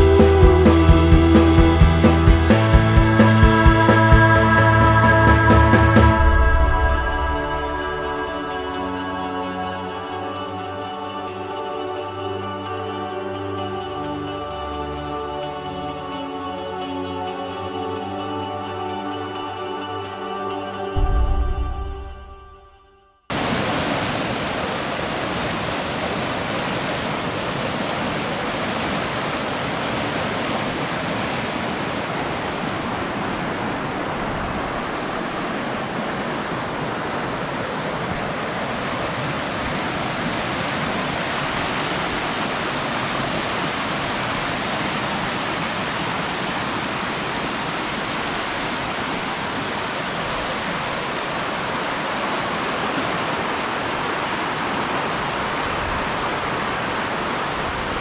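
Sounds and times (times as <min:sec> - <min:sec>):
waterfall rushing: 0:00.0 - 0:13.1, 0:23.3 - 0:58.0.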